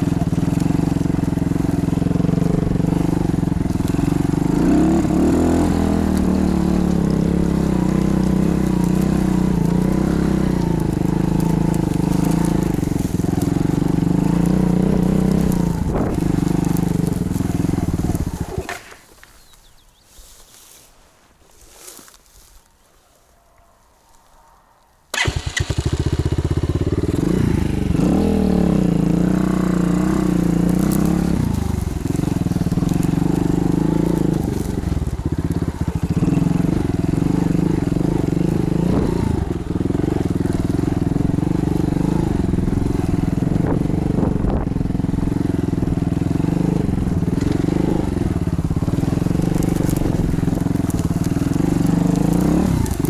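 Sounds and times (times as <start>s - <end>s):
motorbike engine revving: 0.0s - 19.1s, 25.1s - 53.0s.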